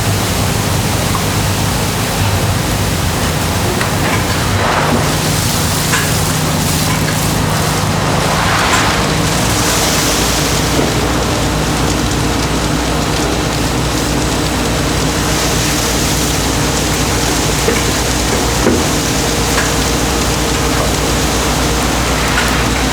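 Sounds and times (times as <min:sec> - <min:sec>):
factory machinery hissing: 0:00.0 - 0:22.9
low machinery hum: 0:00.0 - 0:22.9.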